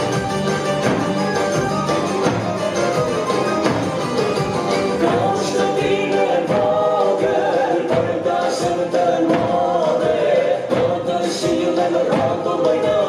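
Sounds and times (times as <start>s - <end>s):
bass drum beat: 0.0s - 13.0s
group singing folk song: 0.0s - 13.0s.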